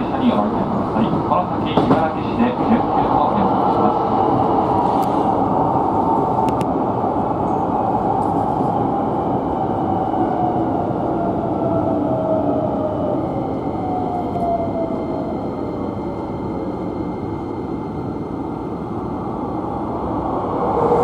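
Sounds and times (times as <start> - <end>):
train rolling rumble: 0.0 - 21.0.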